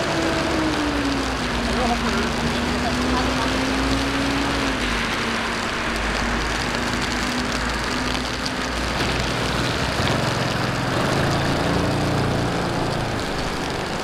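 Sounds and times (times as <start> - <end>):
rain hiss on wet roads: 0.0 - 14.0
vehicle hum: 0.0 - 14.0.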